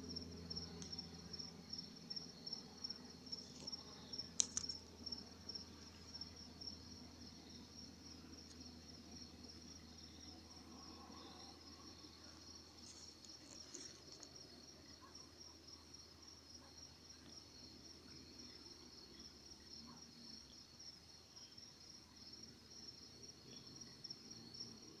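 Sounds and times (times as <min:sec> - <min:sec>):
low background hum: 0:00.0 - 0:20.6
insects chirring: 0:00.0 - 0:22.4.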